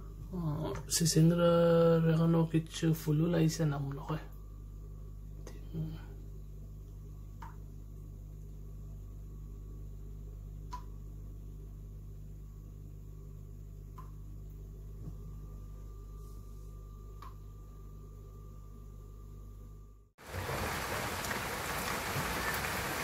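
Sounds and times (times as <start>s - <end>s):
appliance humming: 0.0s - 23.0s.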